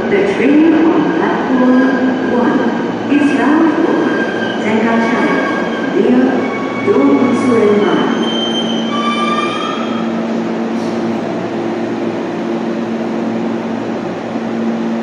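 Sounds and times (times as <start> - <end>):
high whining tones of train: 0.0 - 15.0.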